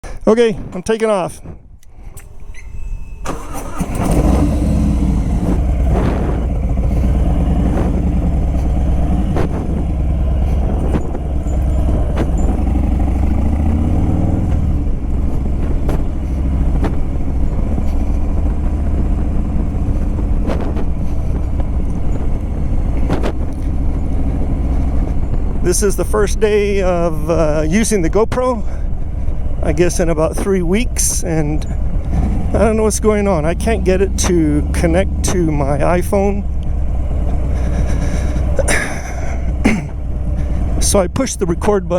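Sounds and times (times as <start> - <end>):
motorcycle engine accelerating: 3.3 - 41.9.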